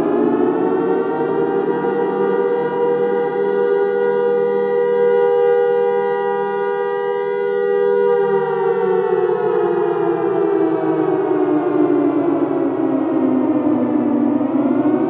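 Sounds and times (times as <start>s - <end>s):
air raid siren wailing: 0.0s - 15.0s.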